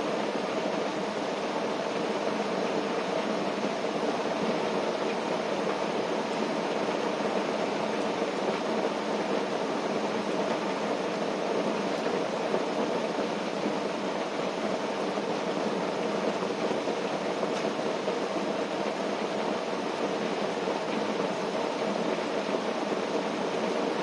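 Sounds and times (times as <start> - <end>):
rain pattering on a tent: 0.0 - 24.0.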